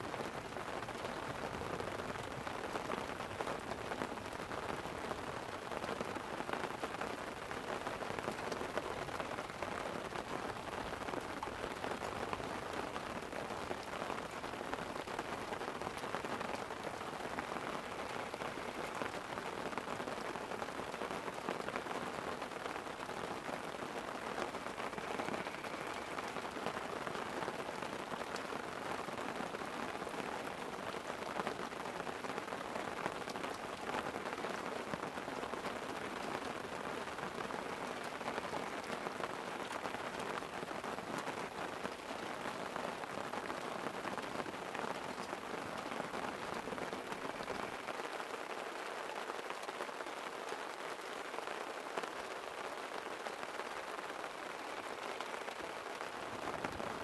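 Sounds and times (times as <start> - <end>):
light rain on a tent: 0.0 - 57.0.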